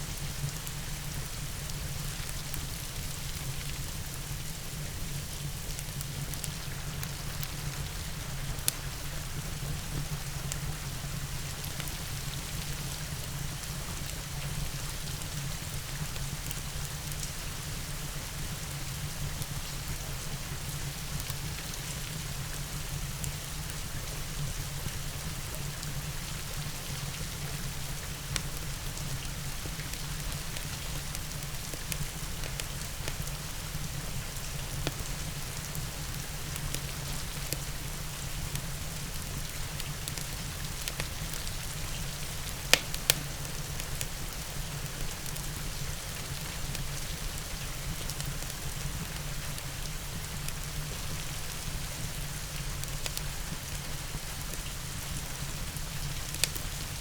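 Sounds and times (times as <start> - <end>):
steady rain falling: 0.0 - 57.0
log fire crackling and popping: 0.1 - 17.9, 26.5 - 57.0.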